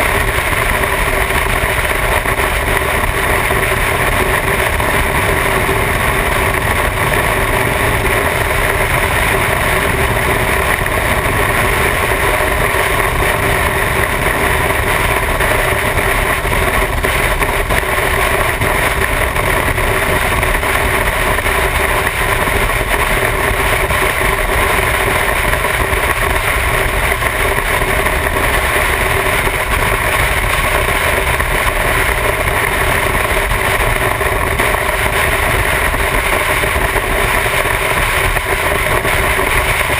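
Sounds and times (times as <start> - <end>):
motorcycle engine drone: 0.0 - 39.9
wind rushing on microphone: 0.0 - 39.9.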